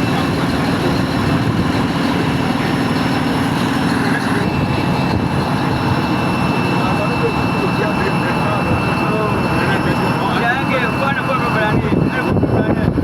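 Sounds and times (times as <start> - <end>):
faint high whine: 0.0 - 13.0
large diesel engine running: 0.0 - 13.0.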